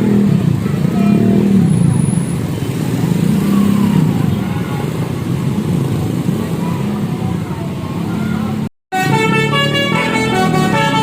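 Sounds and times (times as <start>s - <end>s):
road traffic engines rumbling: 0.0s - 11.0s.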